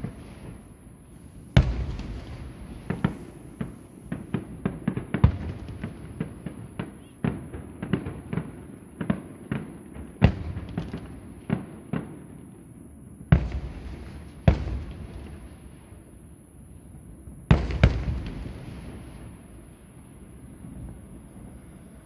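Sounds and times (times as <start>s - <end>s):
fireworks bursting: 0.0s - 12.3s, 13.3s - 16.1s, 17.5s - 22.0s.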